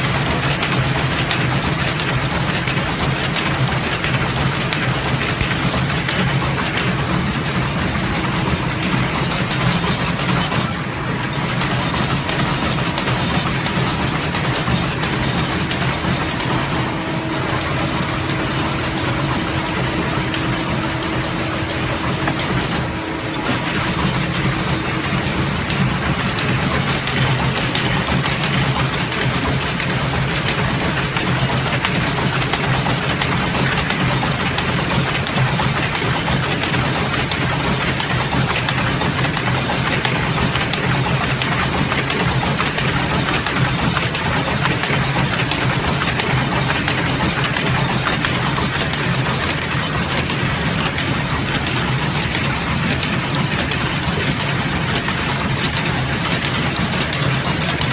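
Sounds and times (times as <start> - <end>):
sewing machine clattering: 0.0 - 57.9.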